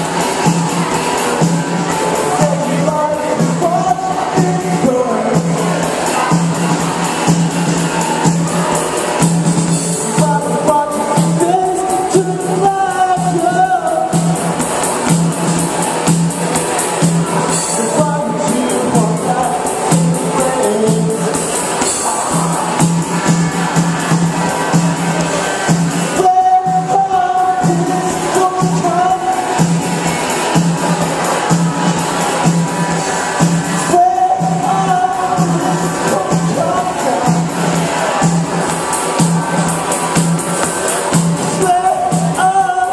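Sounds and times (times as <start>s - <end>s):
person singing: 0.0s - 7.1s, 9.8s - 15.2s, 17.2s - 42.9s
pulsing bass and drums: 0.0s - 42.9s.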